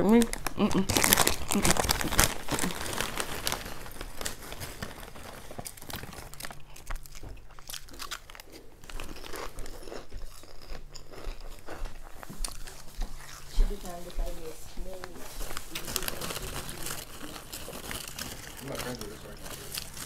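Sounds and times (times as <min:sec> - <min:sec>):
paper wrapper crinkling: 0:00.0 - 0:09.7, 0:12.2 - 0:20.0
chewing crunchy fries: 0:00.0 - 0:20.0.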